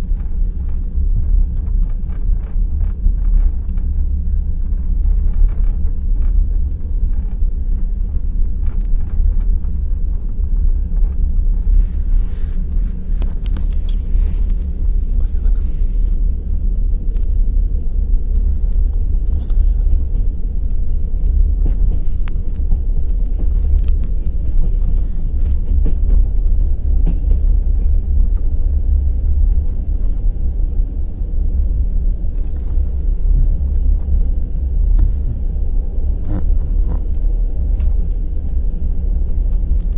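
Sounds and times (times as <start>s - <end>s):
clicking and clatter of wheels: 0.0s - 36.3s
train wheels rumbling on track: 0.0s - 39.9s.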